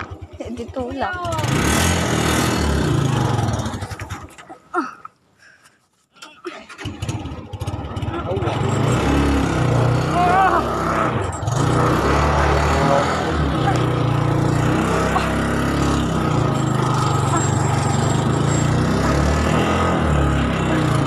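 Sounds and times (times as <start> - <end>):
motorcycle engine running: 0.0 - 4.4, 6.8 - 21.0.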